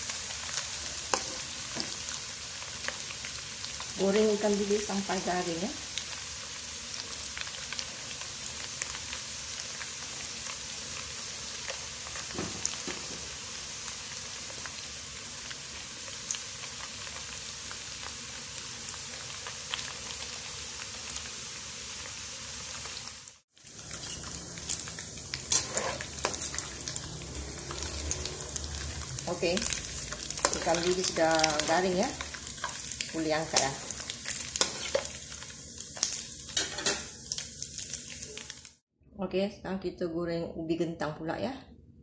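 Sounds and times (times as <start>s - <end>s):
deep-frying oil sizzling: 0.0s - 38.8s.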